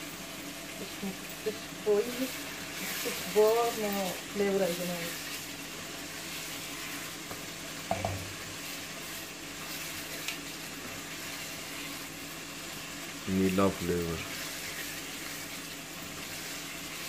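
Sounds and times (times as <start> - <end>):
curry sizzling in a pot: 0.0 - 17.0.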